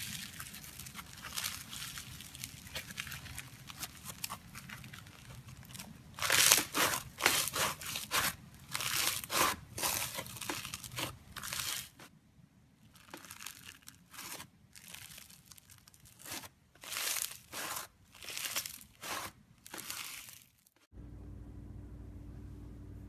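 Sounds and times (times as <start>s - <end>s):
slime crinkling and crackling: 0.0s - 12.1s, 12.8s - 20.9s.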